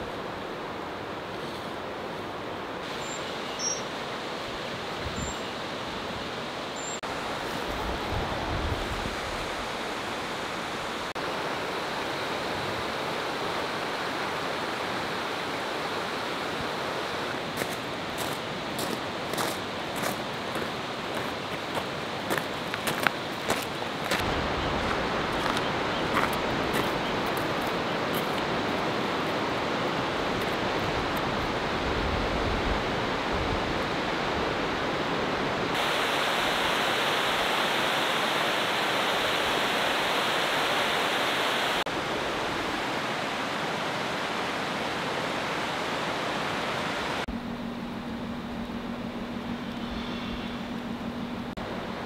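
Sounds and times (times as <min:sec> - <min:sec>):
river water rushing over rapids: 0:00.0 - 0:47.3.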